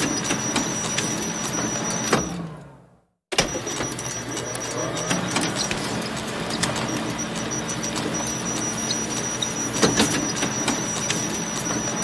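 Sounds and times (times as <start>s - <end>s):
photocopier whirring: 0.0s - 12.0s.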